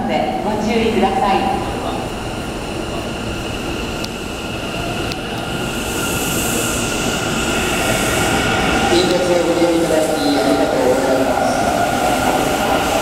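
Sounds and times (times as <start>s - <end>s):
electric train rumble with whine: 0.0s - 13.0s
train hiss: 1.4s - 13.0s.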